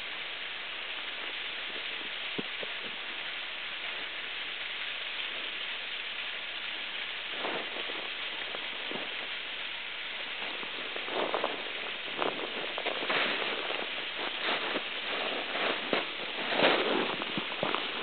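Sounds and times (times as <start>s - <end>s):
water splashes: 0.0s - 18.0s
waterfall rushing: 0.0s - 18.0s.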